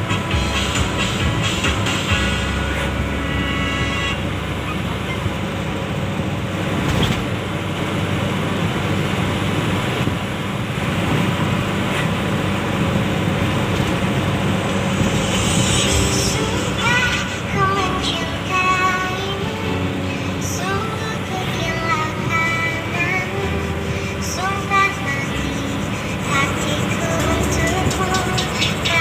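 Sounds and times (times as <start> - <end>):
engine running with mellow exhaust: 0.0 - 29.0.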